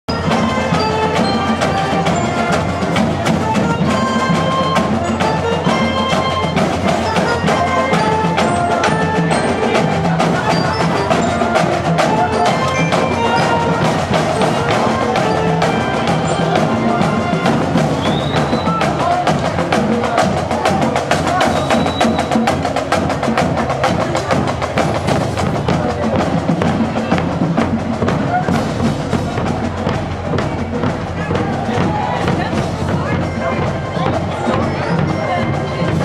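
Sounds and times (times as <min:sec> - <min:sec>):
music with clicking percussion: 0:00.1 - 0:36.0.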